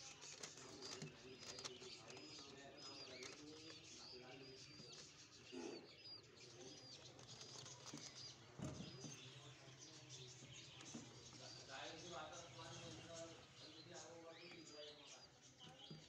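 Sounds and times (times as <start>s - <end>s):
faint high bird chirps: 0.0s - 16.0s.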